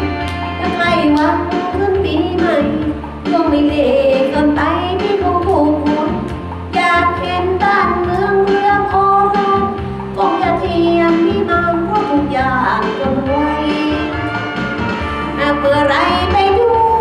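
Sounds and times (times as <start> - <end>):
music backing track: 0.0 - 17.0
woman singing into microphone: 0.6 - 14.4, 15.0 - 17.0.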